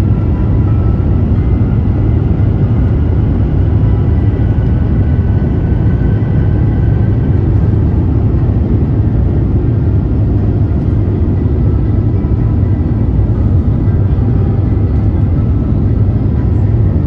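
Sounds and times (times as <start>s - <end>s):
faint engine whine: 0.0s - 17.0s
jet engines deep rumble: 0.0s - 17.0s.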